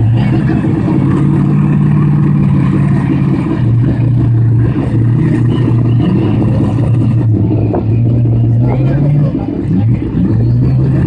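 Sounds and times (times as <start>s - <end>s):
drag car engines droning: 0.0s - 11.0s.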